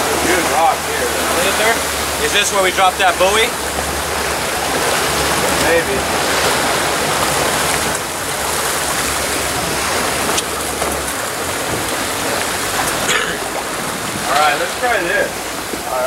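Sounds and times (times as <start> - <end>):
boat wake splashing water: 0.0 - 16.0
low boat hum: 0.0 - 16.0.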